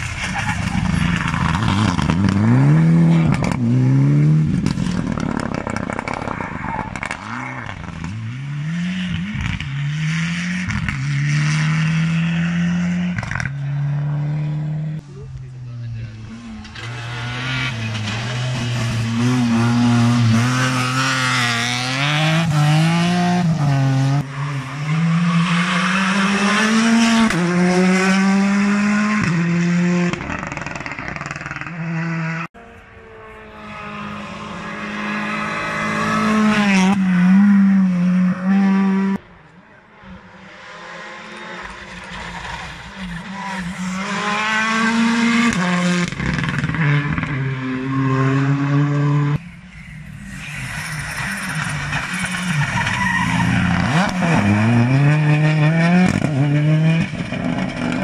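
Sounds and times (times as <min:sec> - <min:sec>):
rally car engine revving: 0:00.0 - 0:39.3, 0:40.0 - 0:58.0
car approaching and revving: 0:00.0 - 0:58.0
rally car accelerating through gears: 0:00.8 - 0:15.0, 0:15.8 - 0:39.2, 0:40.2 - 0:49.4, 0:50.4 - 0:58.0.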